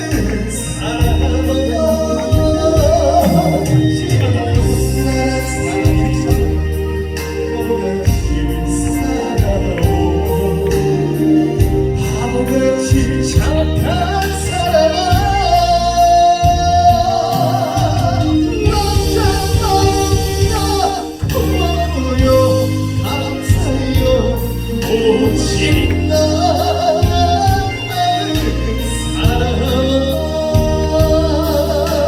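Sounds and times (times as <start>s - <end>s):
backing track with bass beat: 0.0s - 32.0s
person singing: 0.0s - 32.0s.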